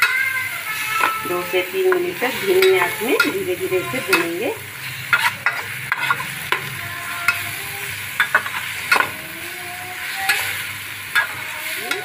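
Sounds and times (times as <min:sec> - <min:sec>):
paste sizzling in oil: 0:00.0 - 0:12.0
spatula scraping a pan: 0:00.0 - 0:12.0.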